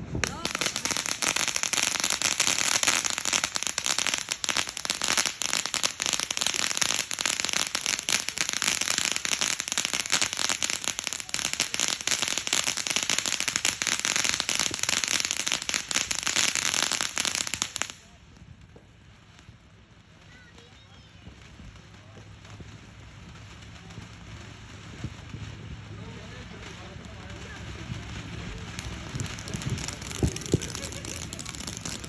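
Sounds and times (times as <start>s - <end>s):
fireworks crackling: 0.0s - 32.0s.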